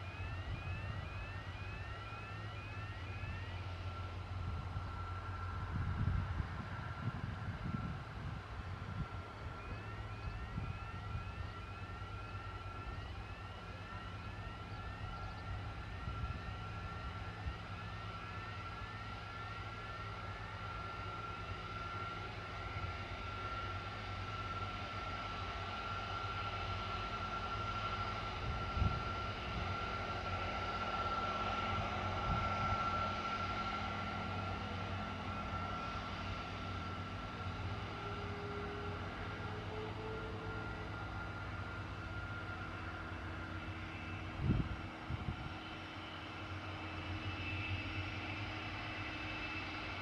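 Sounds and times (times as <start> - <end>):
jet engines running: 0.0 - 50.0.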